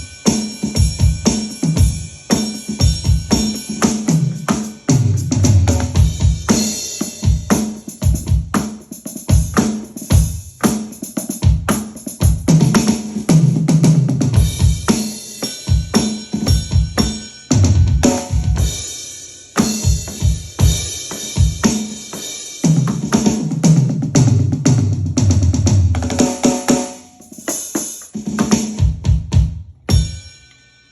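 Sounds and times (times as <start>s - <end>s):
electronic drum kit groove: 0.0s - 30.7s.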